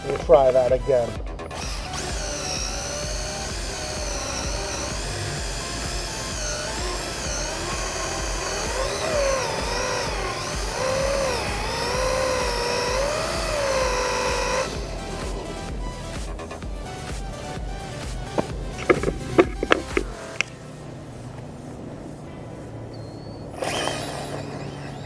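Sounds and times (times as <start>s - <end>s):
electric motor whining: 0.0s - 22.4s, 23.3s - 25.0s.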